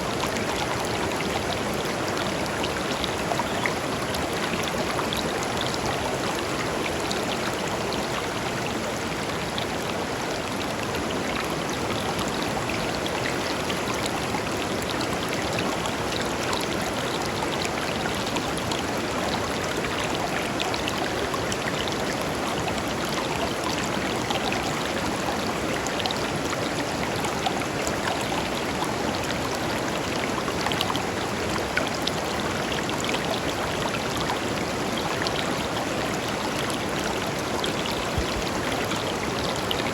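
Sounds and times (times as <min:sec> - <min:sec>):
river babbling over stones: 0:00.0 - 0:39.9.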